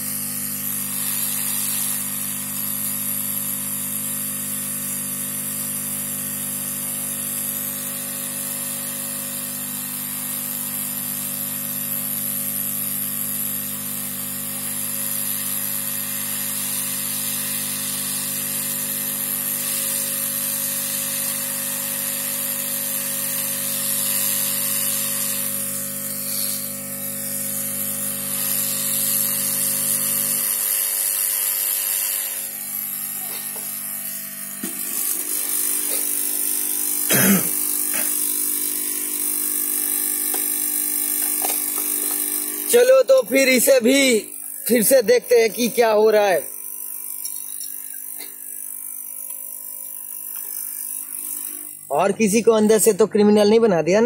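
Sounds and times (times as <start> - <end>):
hot air blower hissing: 0.0 - 52.9.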